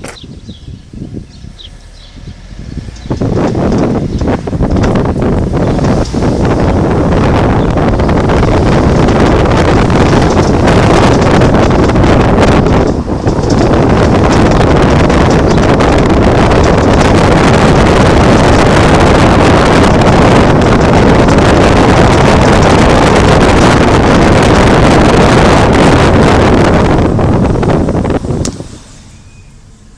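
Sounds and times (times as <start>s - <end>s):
car road and wind noise: 0.0s - 29.9s
wind buffeting microphone: 0.0s - 29.9s.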